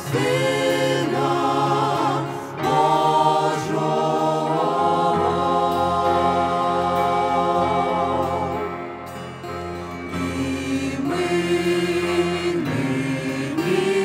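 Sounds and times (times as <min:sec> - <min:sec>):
mixed choir singing in harmony: 0:00.0 - 0:14.0.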